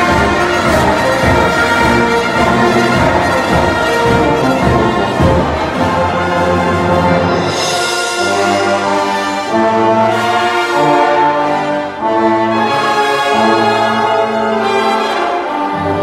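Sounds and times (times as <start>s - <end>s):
concert band playing: 0.0s - 16.0s.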